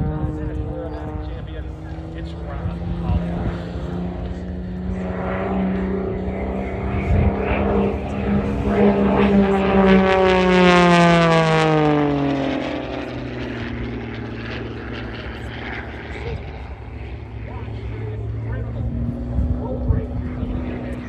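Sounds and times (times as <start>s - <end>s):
propeller plane engine overhead: 0.0s - 21.0s.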